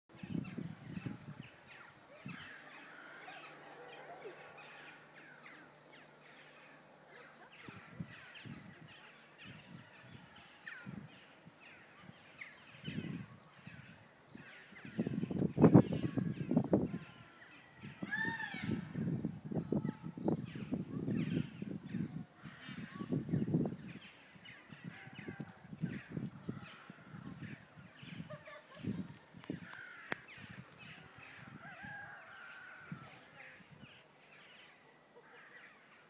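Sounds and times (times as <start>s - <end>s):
birds calling and chirping: 0.1s - 36.0s.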